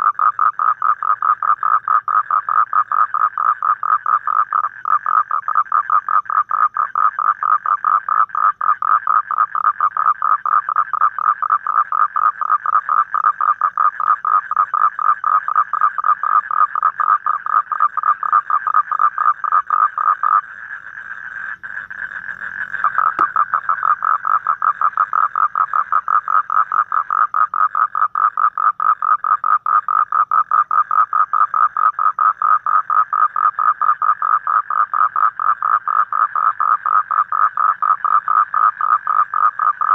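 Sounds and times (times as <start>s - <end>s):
toad trilling: 0.0s - 39.9s.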